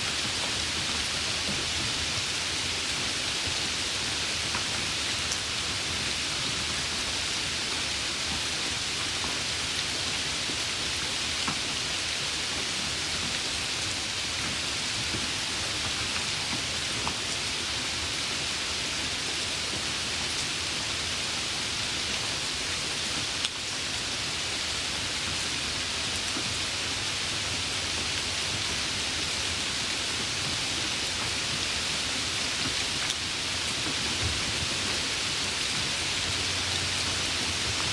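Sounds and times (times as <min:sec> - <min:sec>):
light rain hissing: 0:00.0 - 0:37.9.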